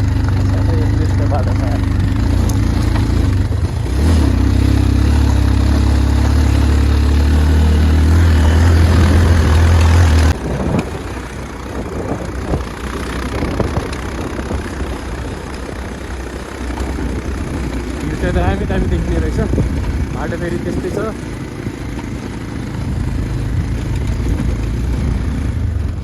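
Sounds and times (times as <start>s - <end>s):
motorcycle engine running: 0.0s - 26.0s
uneven rumble: 0.0s - 26.0s.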